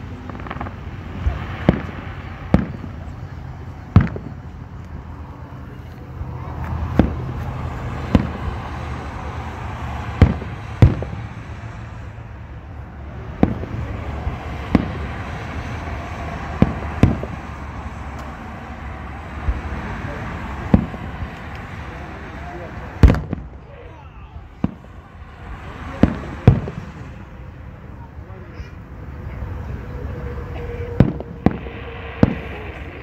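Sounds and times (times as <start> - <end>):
firework shells booming: 0.0 - 4.9, 6.5 - 12.1, 13.2 - 27.5, 30.4 - 33.0
low background rumble: 0.0 - 33.0.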